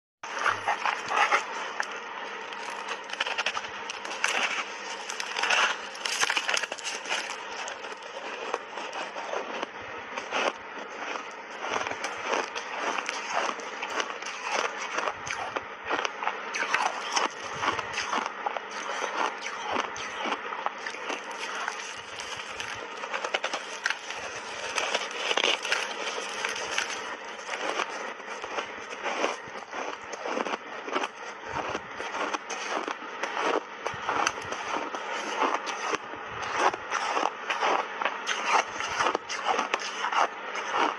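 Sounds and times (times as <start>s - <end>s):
chewing ice crunches: 0.2s - 40.9s.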